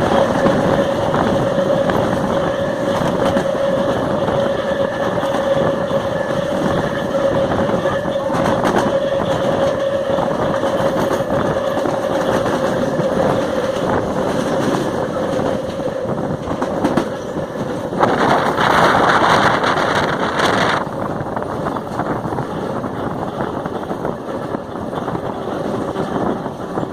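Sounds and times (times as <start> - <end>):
electric train motors whining: 0.0 - 26.9
rushing noise: 0.0 - 26.9.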